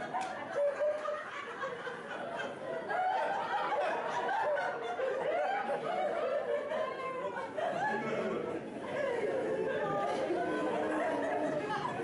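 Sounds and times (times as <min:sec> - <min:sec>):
people laughing and chuckling: 0:00.0 - 0:12.0.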